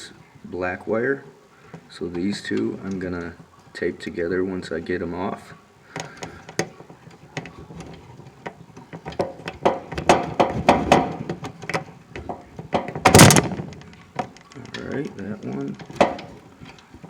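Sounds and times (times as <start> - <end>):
scraping: 1.6 - 17.0.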